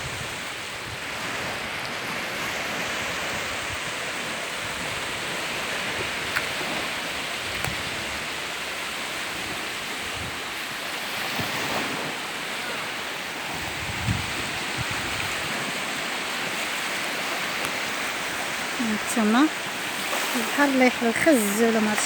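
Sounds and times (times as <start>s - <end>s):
waves washing onto beach: 0.0s - 22.0s.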